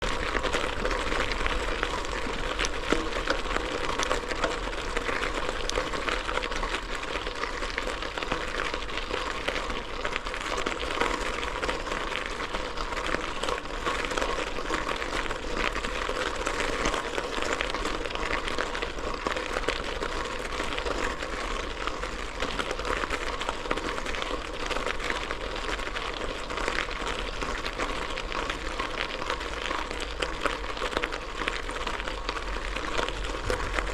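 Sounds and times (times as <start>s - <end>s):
bike tyres crunching gravel: 0.0s - 33.9s.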